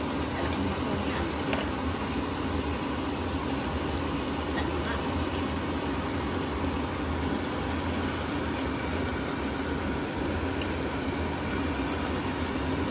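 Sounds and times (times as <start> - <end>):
food sizzling in a wok: 0.0 - 12.9.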